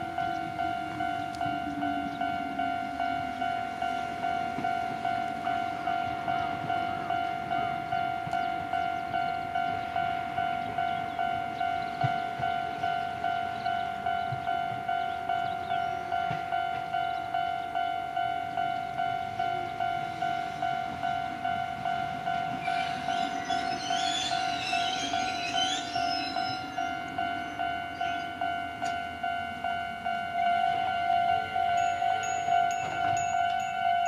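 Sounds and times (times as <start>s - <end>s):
level-crossing warning bell: 0.0s - 34.0s
train whine: 0.0s - 34.0s.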